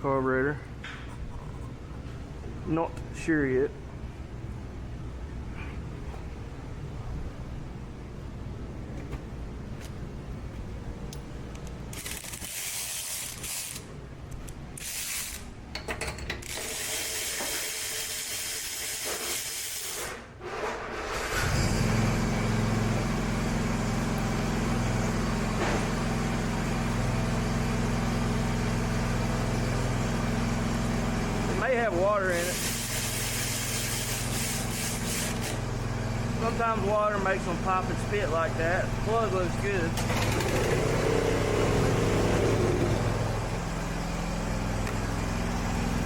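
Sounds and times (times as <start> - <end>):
machine running with loud hum: 0.0 - 15.8, 16.4 - 46.0.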